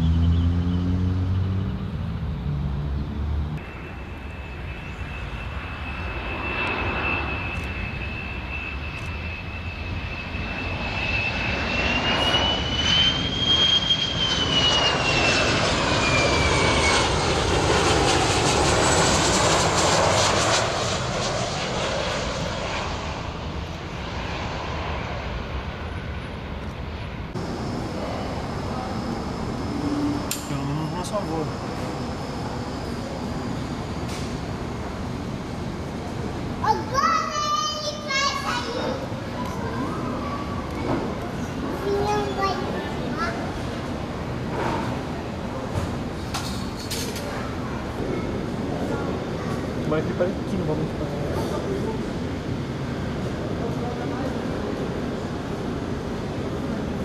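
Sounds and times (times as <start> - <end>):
jet airliner flying past: 0.0 - 57.0.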